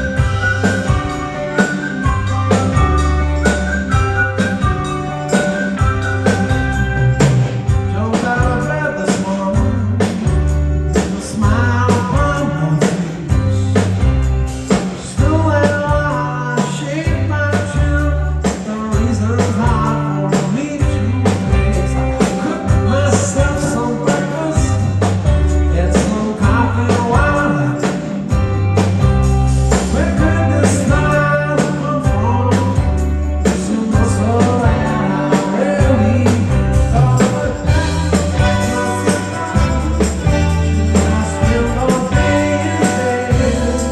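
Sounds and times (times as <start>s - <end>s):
live pop-rock band playing: 0.0s - 43.9s.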